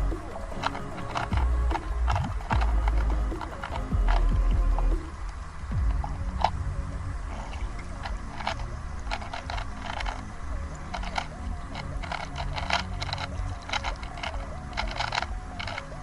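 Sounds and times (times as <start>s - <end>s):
puzzle cube plastic clicks: 0.0s - 6.6s, 7.3s - 16.0s
low steady rumble: 0.0s - 16.0s.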